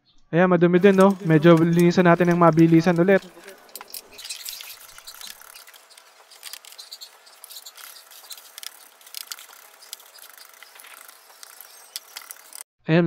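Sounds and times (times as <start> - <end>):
small brush scrubbing: 0.8 - 12.6.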